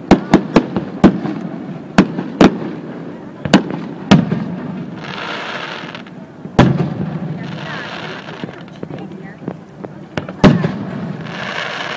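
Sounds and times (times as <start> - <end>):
hissing firework crackle: 0.0 - 11.9.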